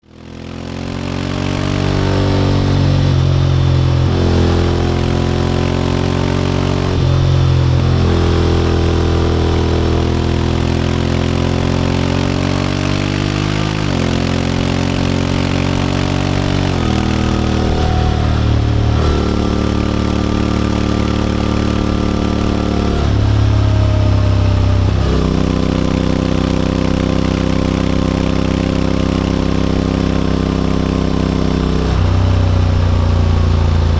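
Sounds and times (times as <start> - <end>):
motorcycle engine shifting gears: 0.1 - 33.9.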